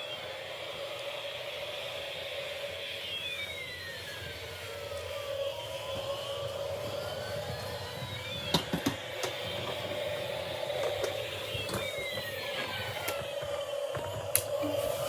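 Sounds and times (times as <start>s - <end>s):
toy siren wailing: 0.0s - 15.0s.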